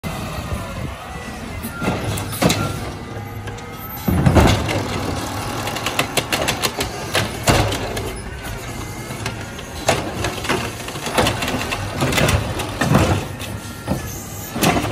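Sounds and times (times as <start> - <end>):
garbage truck engine revving: 0.1 - 14.9
cart clattering knocks: 1.8 - 14.9.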